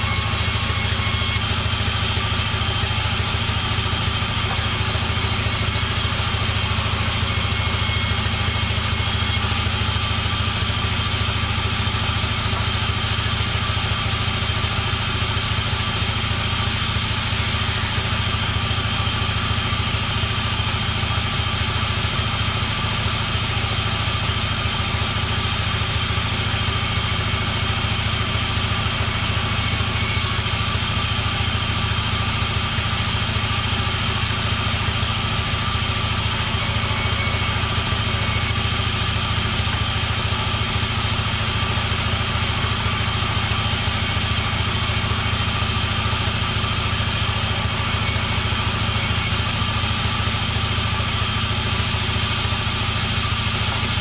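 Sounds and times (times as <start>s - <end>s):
sawmill machinery humming and whining: 0.0s - 54.0s.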